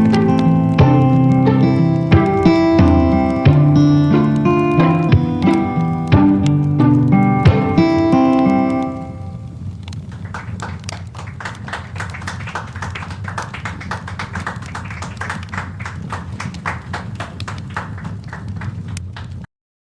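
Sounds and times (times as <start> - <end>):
low rumble of burning: 0.0 - 19.4
campfire crackling: 0.0 - 19.5.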